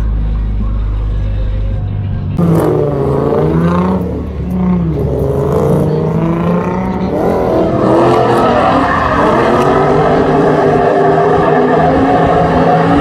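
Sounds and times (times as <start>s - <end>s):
car engine revving: 2.0s - 13.0s.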